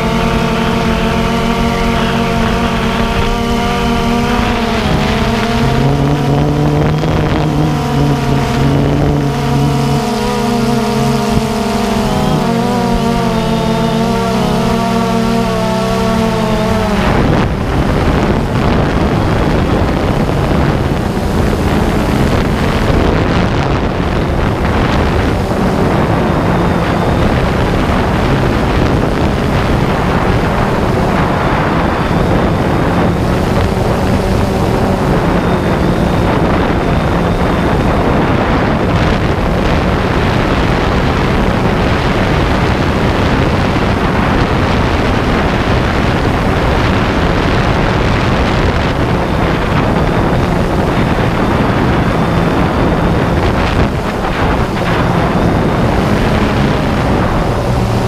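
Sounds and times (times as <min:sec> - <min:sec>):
drone motors humming: 0:00.0 - 0:58.0
wind noise on microphone: 0:00.0 - 0:58.0.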